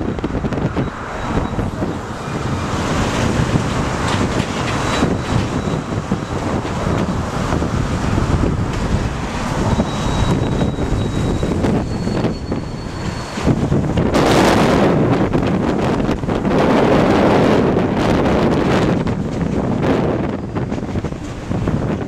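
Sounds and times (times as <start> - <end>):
train rumbling past: 0.0 - 22.0
wind buffeting microphone: 0.0 - 22.0.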